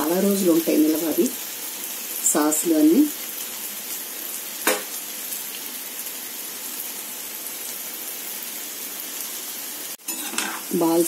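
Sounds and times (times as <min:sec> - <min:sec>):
food sizzling in deep-frying oil: 0:00.0 - 0:11.0.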